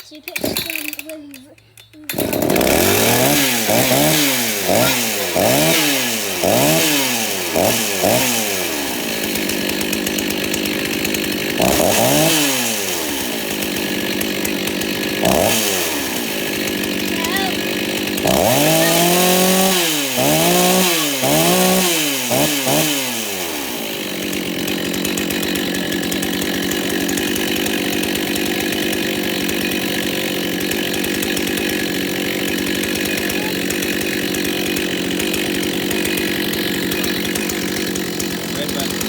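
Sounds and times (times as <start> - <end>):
chainsaw revving and idling: 0.0 - 39.0.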